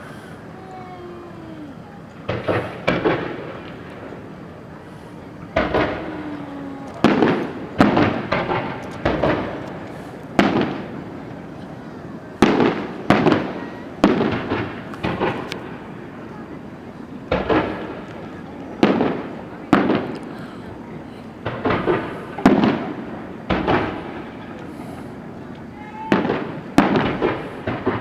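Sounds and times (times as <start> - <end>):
fireworks bursting with echoing bangs: 0.0 - 28.0.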